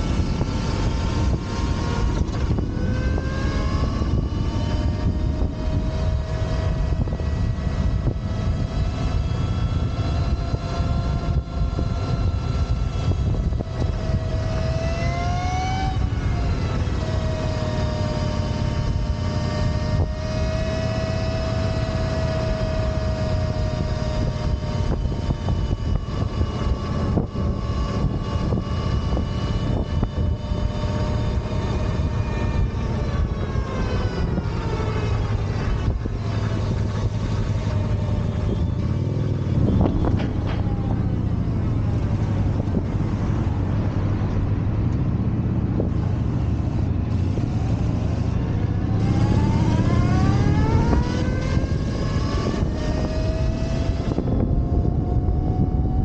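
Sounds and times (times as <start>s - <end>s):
electric motorcycle motor whine: 0.0s - 56.0s
wind and road noise: 0.0s - 56.0s.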